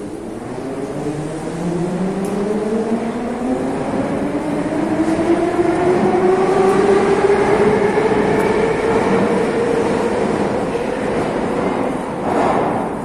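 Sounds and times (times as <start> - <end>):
rumble of train wheels: 0.0 - 13.0.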